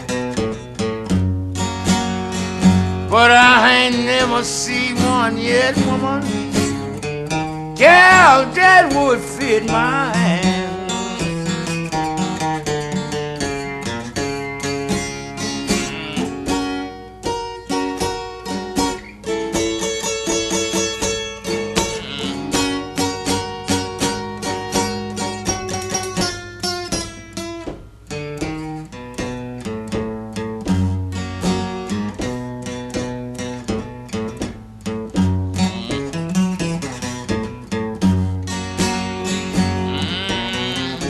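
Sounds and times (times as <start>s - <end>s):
blues guitar plucking: 0.0s - 41.0s.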